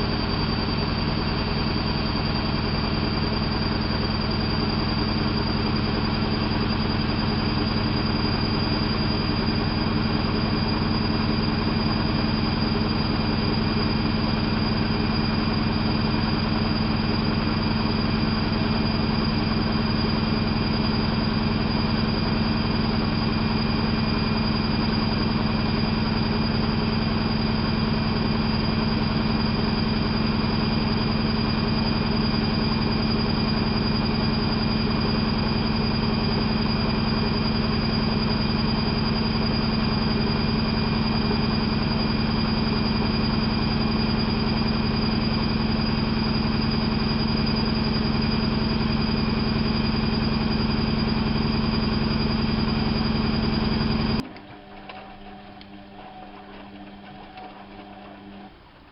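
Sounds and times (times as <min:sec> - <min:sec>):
washing machine running: 0:00.0 - 0:58.9.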